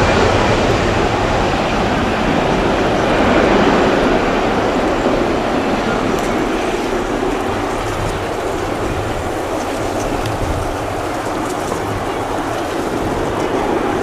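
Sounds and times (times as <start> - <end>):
jet airliner engines: 0.0 - 14.0.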